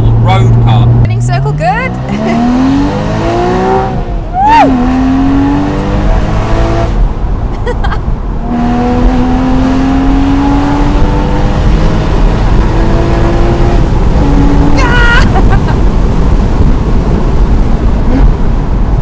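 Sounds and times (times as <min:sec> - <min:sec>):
car engine accelerating: 0:00.0 - 0:19.0
wind rushing: 0:01.8 - 0:19.0.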